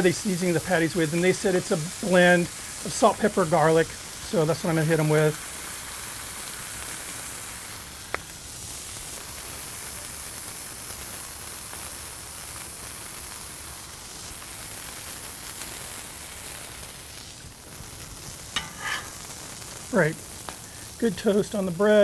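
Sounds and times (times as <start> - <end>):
meat and toast sizzling on griddle: 0.0 - 22.0.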